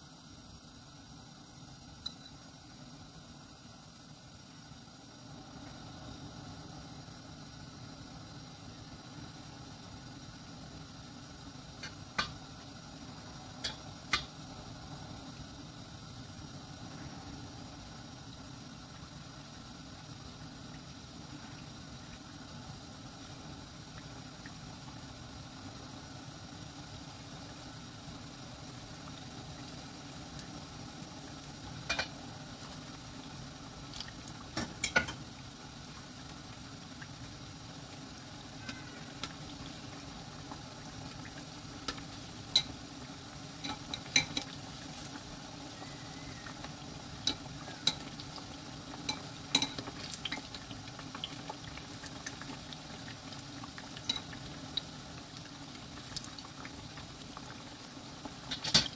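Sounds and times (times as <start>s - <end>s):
deep-frying sizzle and bubble: 0.0s - 58.9s.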